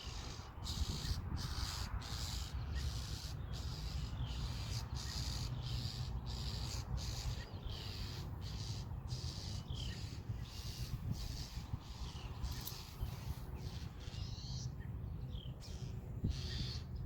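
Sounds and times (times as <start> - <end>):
harsh rasping bird alarm calls: 0.0 - 14.8, 15.6 - 17.0.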